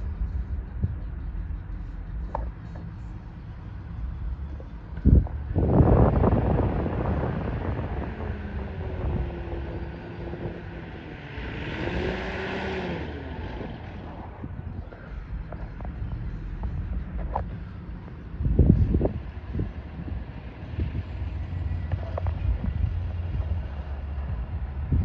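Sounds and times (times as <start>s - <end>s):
aircraft engine drone: 0.0s - 25.0s
loud low rumble: 0.0s - 25.0s.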